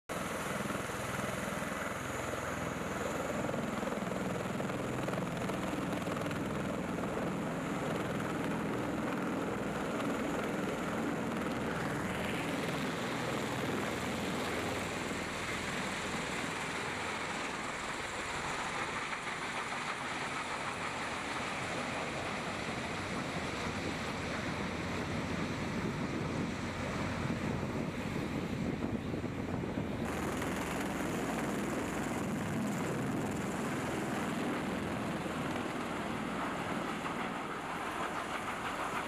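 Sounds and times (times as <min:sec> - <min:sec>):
aircraft rotor drone: 0:00.1 - 0:39.0.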